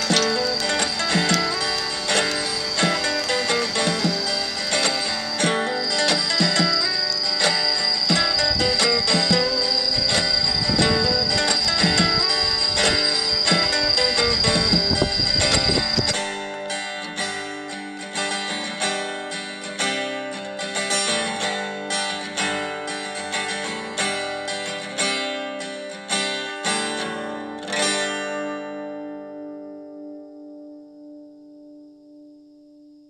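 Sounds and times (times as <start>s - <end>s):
picked acoustic guitar: 0.0s - 32.3s.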